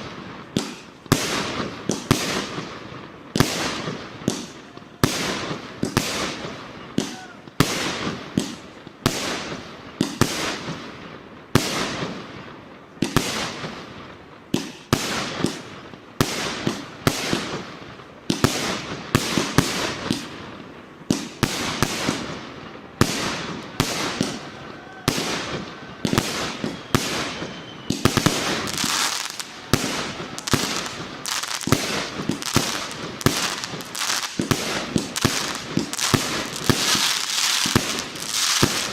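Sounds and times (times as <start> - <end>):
fireworks launches and bursts: 0.0 - 38.9.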